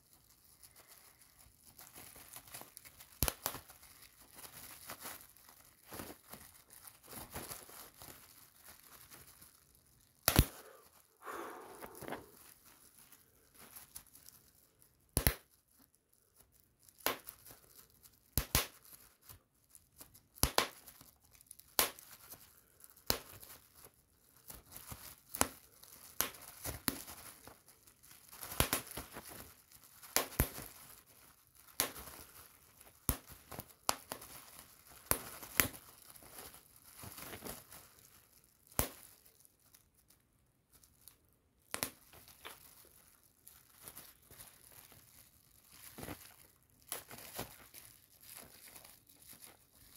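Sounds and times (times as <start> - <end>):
bubble wrap popping: 0.0 - 49.9
plastic sheet crinkling: 0.0 - 49.9.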